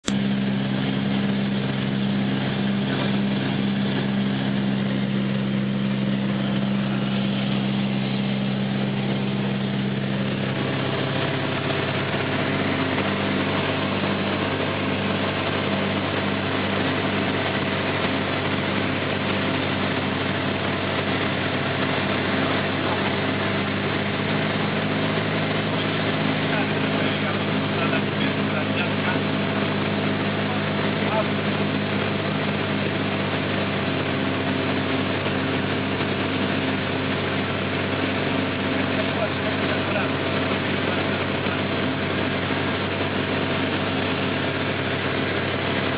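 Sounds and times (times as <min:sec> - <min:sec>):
aircraft engine and propeller drone: 0:00.0 - 0:45.9.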